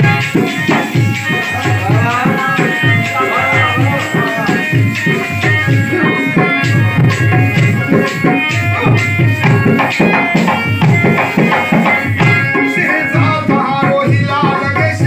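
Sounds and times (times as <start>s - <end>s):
hand drum beat: 0.0s - 15.0s
harmonium chords: 0.0s - 15.0s.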